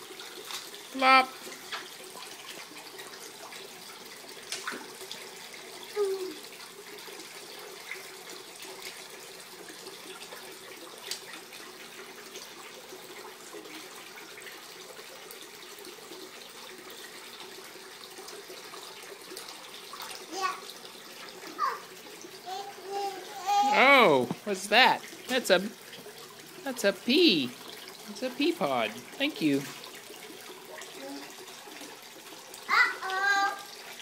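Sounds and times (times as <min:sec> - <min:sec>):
water trickling in fountain: 0:00.0 - 0:34.0.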